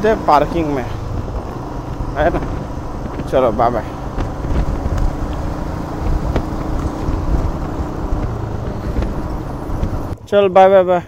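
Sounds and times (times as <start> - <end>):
motorcycle engine running: 0.0 - 10.2
road and wind noise: 0.0 - 11.0.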